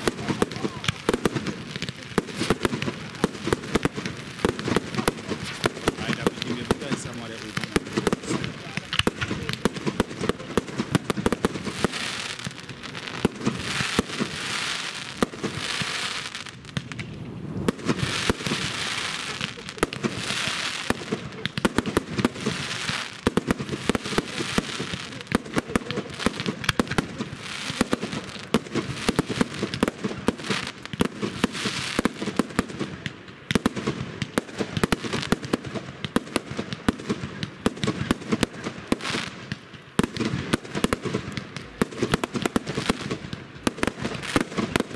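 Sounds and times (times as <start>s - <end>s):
fireworks bangs and crackling: 0.0s - 44.9s
fireworks hissing: 0.0s - 44.9s.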